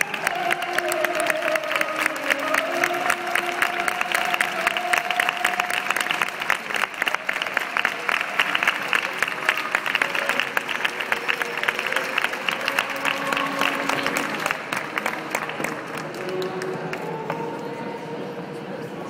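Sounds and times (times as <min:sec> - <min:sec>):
audience applauding: 0:00.0 - 0:17.7
background music: 0:00.0 - 0:19.0.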